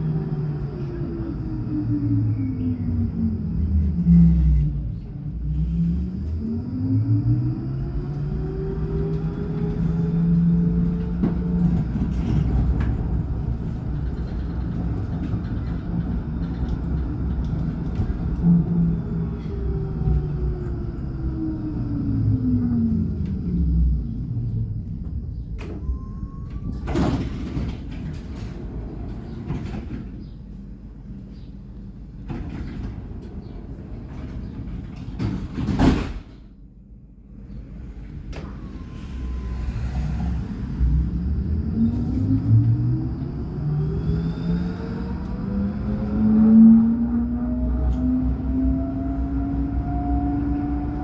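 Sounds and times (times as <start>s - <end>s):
tram electric drive hum: 0.0s - 51.0s
tram wheels rumbling on rails: 0.0s - 51.0s.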